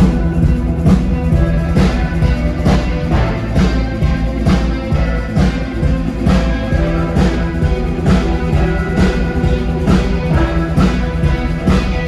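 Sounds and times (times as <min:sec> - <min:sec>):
orchestral music: 0:00.0 - 0:12.0
percussion strikes: 0:00.0 - 0:12.0.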